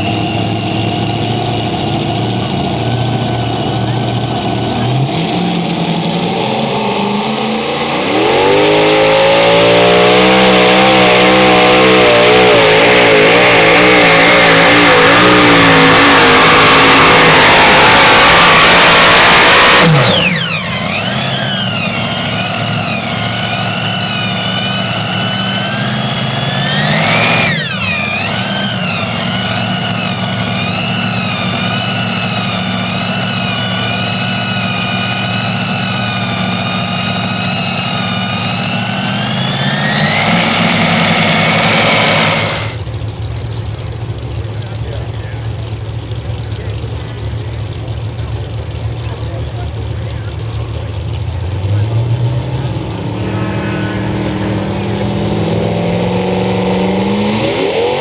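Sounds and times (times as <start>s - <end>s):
tractor engines running under load: 0.0s - 57.8s
engines idling: 0.0s - 58.0s.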